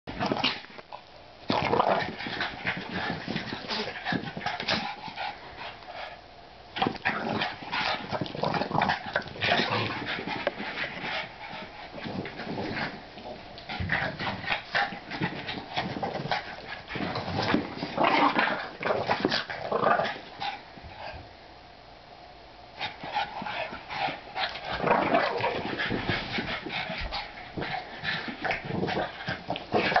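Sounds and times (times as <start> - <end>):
dogs vocalising while play-fighting: 1.5 - 6.2, 6.8 - 21.2, 22.8 - 30.0.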